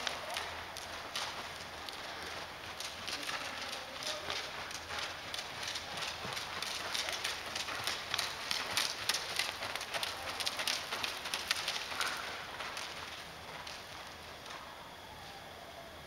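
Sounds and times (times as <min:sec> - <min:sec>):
hoofbeats on dirt: 0:00.0 - 0:14.6.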